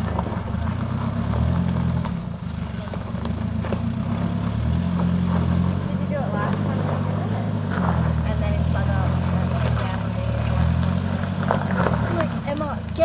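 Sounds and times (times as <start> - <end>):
truck engine pulling under load: 0.0 - 13.0.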